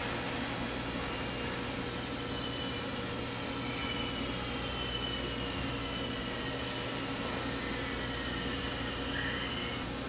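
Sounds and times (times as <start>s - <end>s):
room hum and hiss: 0.0s - 10.0s
faint high whining tones: 0.7s - 10.0s.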